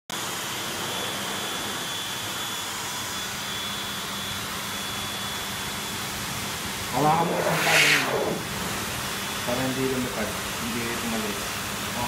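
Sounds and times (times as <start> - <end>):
blow dryer running: 0.2 - 12.0.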